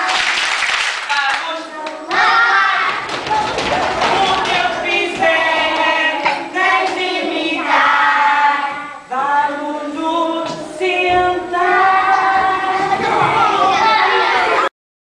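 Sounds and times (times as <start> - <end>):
children singing: 1.6 - 14.7.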